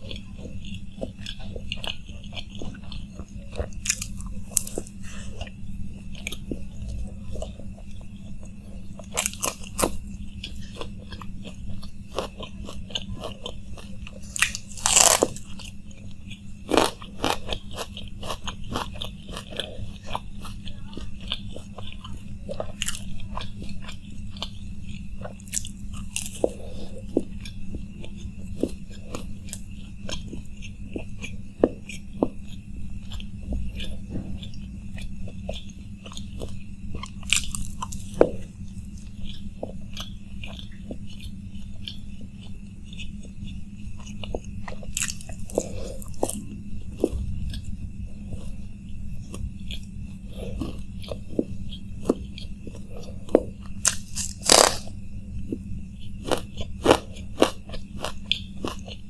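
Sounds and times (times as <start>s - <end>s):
crunchy chewing: 0.0s - 59.0s
steady low hum: 0.0s - 59.0s.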